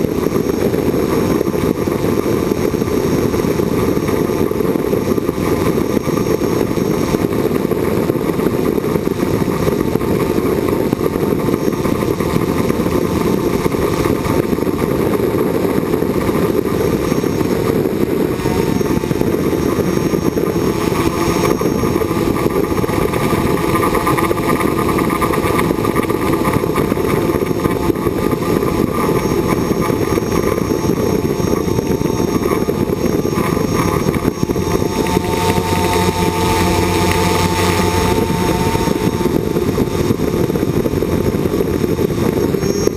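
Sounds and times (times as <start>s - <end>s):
drone propellers and motors: 0.0s - 42.9s
thin high whine: 0.0s - 42.9s.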